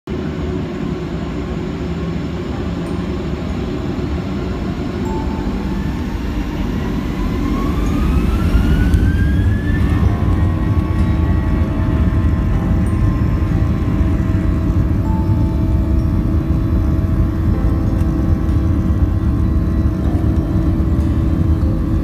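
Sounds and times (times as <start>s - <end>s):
jet engine whine rising: 0.1s - 22.0s
jet engines rumbling: 0.1s - 22.0s.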